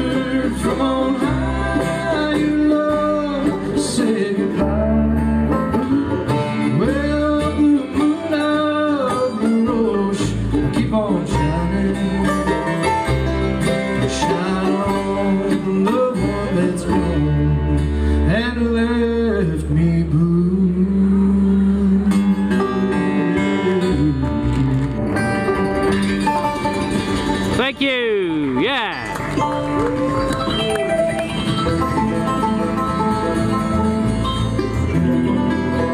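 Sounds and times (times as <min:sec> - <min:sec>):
acoustic guitar: 0:00.0 - 0:35.9
banjo: 0:00.0 - 0:35.9
mandolin: 0:00.0 - 0:35.9
upright bass: 0:00.0 - 0:35.9.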